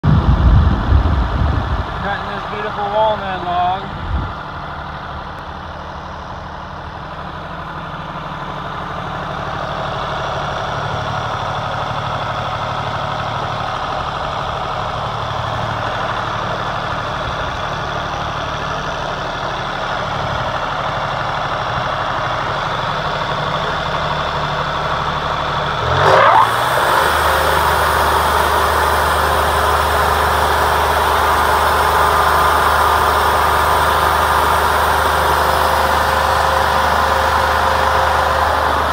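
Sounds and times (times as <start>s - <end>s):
band sawmill engine under load: 0.0s - 38.9s.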